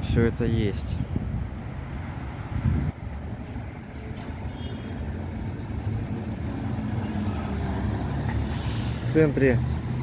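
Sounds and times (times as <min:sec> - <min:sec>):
rumble of passing vehicles: 0:00.0 - 0:10.0.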